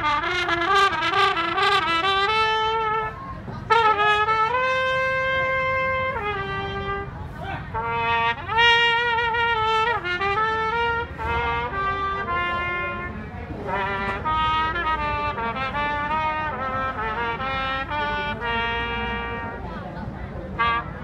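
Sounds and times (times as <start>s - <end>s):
solo trumpet melody: 0.0s - 19.6s, 20.5s - 21.0s.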